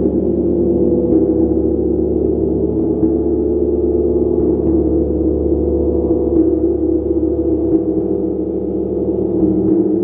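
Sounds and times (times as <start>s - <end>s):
gong drone: 0.0s - 10.0s
soft mallet strokes on gong: 0.0s - 10.0s.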